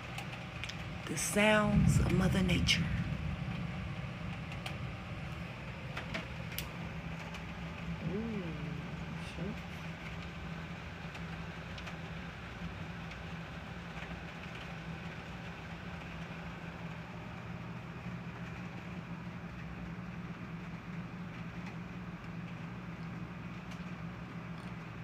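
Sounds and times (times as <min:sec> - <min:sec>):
low steady hum: 0:00.0 - 0:25.0
steady rain: 0:00.0 - 0:25.0.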